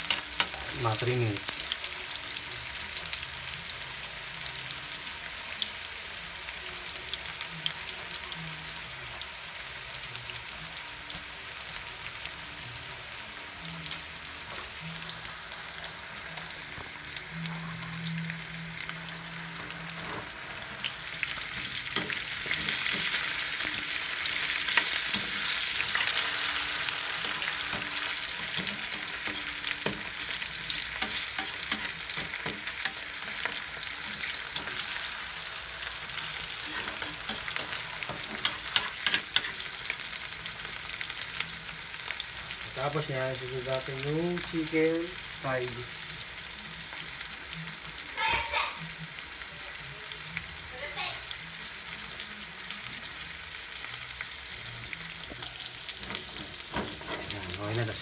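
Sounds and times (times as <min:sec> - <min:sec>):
vegetables sizzling in oil: 0:00.0 - 0:58.0.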